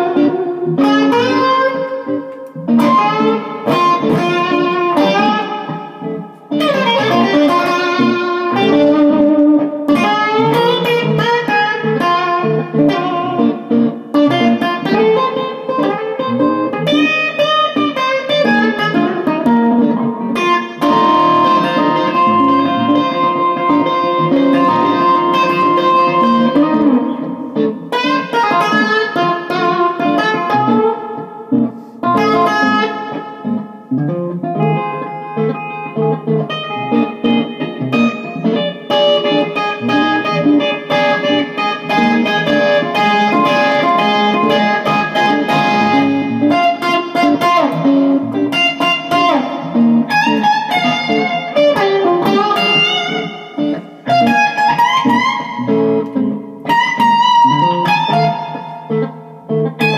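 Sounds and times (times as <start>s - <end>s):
electric guitar playing blues: 0.0s - 59.9s.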